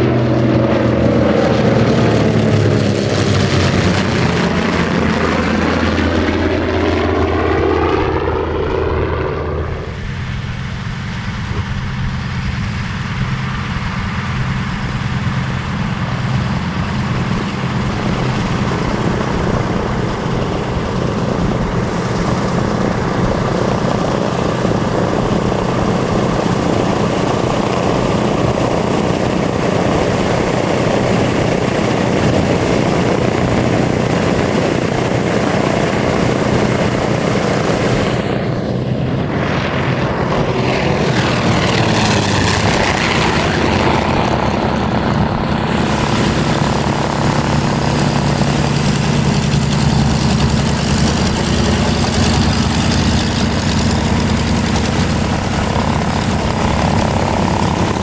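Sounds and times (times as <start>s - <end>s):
propeller drone: 0.0s - 58.0s
radial aircraft engine running: 0.0s - 58.0s.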